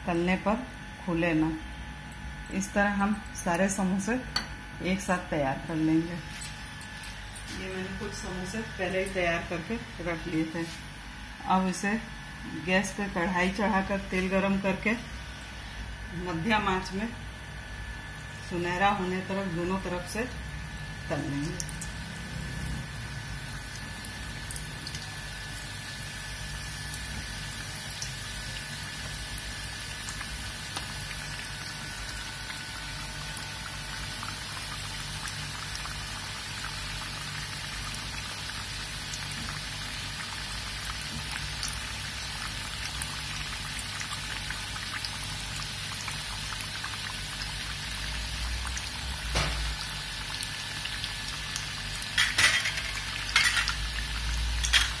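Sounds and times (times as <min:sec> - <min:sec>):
samosas sizzling in hot oil: 0:05.8 - 0:55.0.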